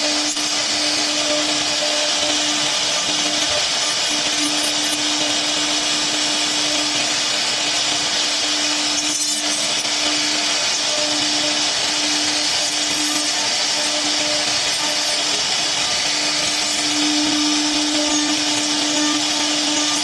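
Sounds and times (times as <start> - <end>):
router spindle hiss and hum: 0.0 - 20.0.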